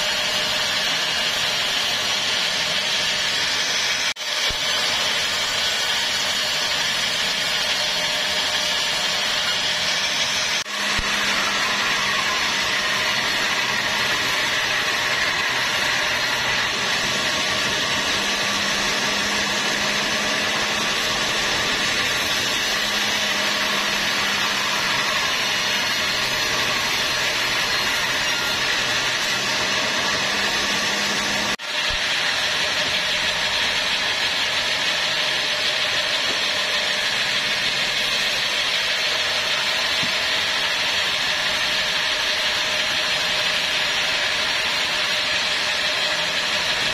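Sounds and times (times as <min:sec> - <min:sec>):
band sawmill cutting wood: 0:00.0 - 0:46.9.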